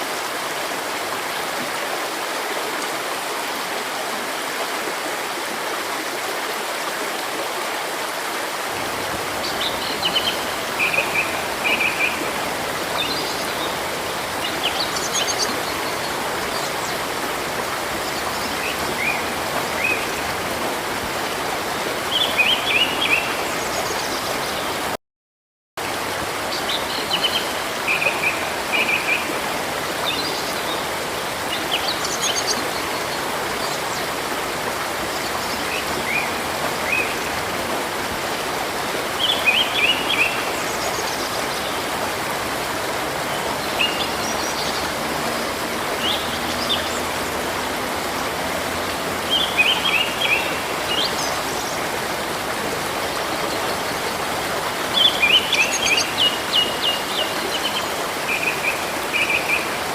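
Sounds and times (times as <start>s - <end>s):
stream rushing: 0.0s - 25.0s, 25.8s - 59.9s.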